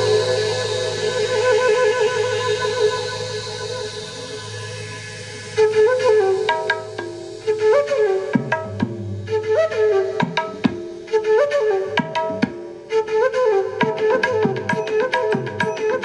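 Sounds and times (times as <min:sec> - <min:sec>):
tabla drum strokes: 0:00.0 - 0:13.0
flute melody: 0:00.0 - 0:16.0.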